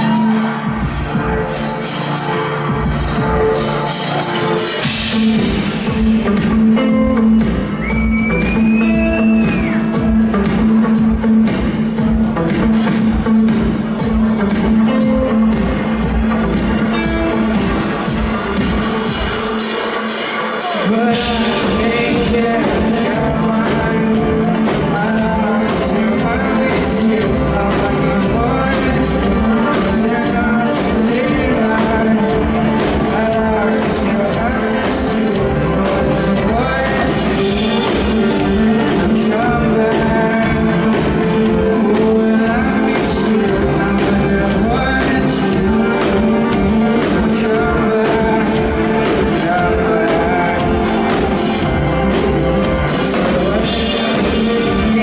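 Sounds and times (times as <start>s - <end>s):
live band playing electronic pop: 0.0s - 55.0s.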